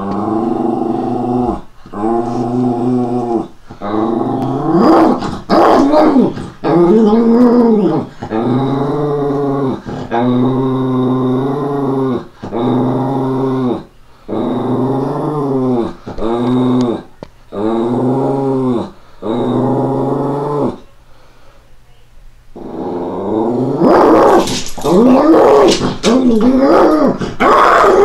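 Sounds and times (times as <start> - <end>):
dog growling low: 0.0 - 20.8, 22.6 - 28.0.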